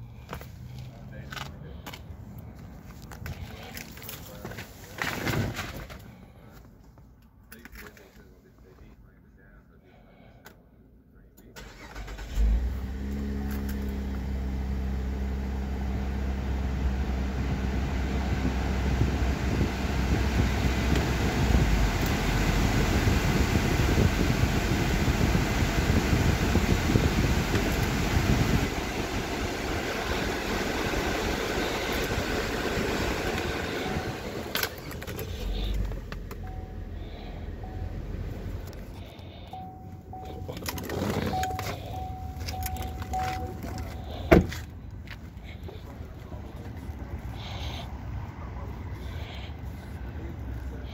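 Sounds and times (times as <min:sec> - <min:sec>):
car engine idling: 0:00.0 - 0:08.2, 0:11.4 - 0:50.9.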